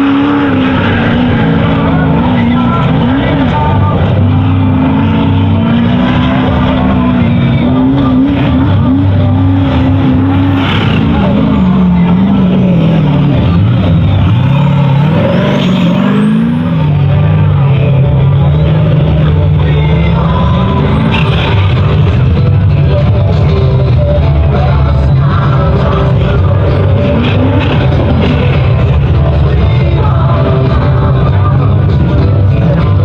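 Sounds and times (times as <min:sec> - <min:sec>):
engine revving hard: 0:00.0 - 0:33.0.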